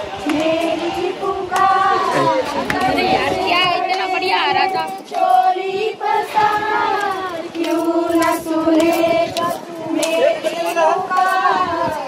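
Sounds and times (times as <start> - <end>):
women singing in chorus: 0.0 - 12.0.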